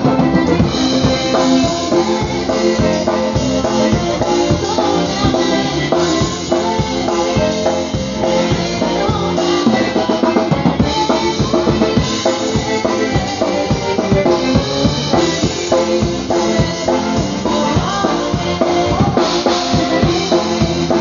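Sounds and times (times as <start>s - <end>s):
drum kit beat: 0.0s - 21.0s
polka band playing: 0.0s - 21.0s.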